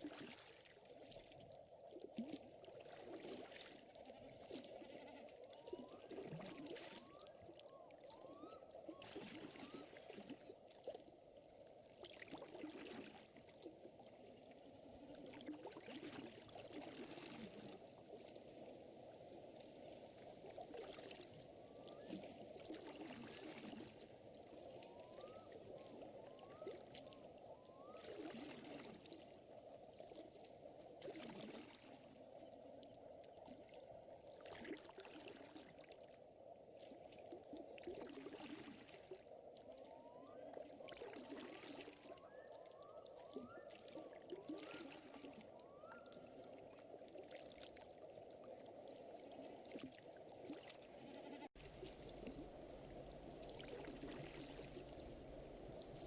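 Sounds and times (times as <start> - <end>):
water trickling and lapping: 0.0 - 56.0.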